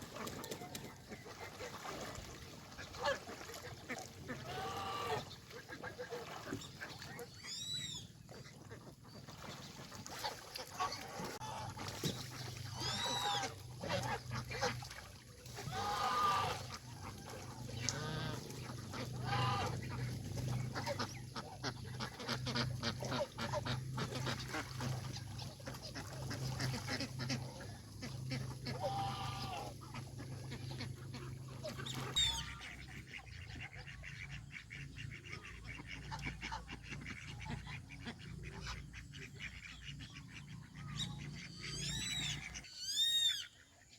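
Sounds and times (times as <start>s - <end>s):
geese honking: 2.7s - 8.8s, 10.1s - 43.6s.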